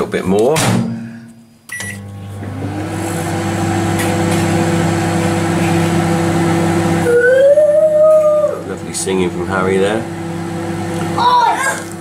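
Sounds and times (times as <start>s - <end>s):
microwave oven humming: 1.7s - 12.0s.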